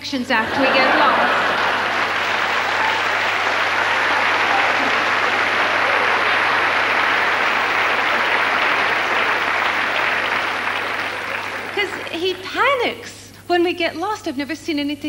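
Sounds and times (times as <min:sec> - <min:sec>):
audience applauding: 0:00.4 - 0:12.5.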